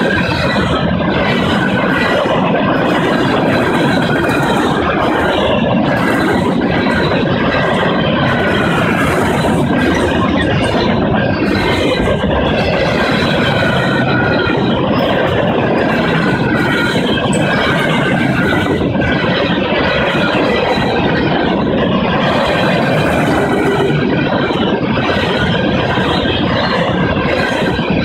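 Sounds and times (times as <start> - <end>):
steel wheels rolling on rails: 0.0 - 28.0.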